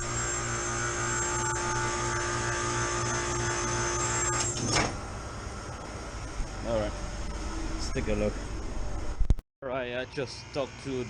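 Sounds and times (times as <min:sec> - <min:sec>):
machine hum with low drone: 0:00.0 - 0:11.0
steady machine whine: 0:00.0 - 0:11.0.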